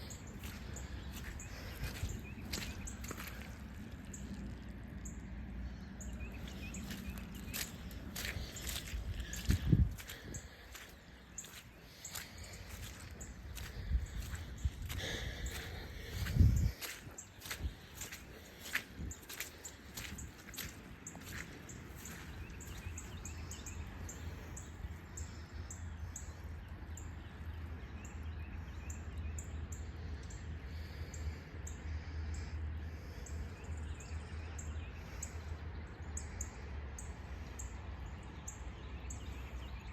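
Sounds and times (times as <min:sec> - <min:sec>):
low steady rumble: 0:00.0 - 0:39.9
small birds chirping: 0:00.0 - 0:39.9.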